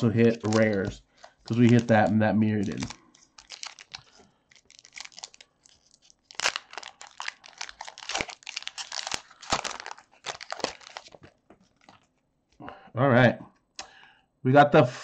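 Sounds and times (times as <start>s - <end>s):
foil wrapper crinkling and tearing: 0.0s - 12.2s.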